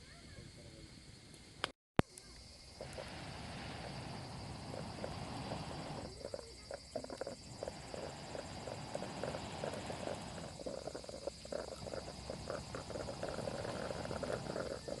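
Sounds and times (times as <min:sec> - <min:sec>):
night insects chirring: 0:00.0 - 0:15.0
campfire crackling: 0:01.2 - 0:15.0.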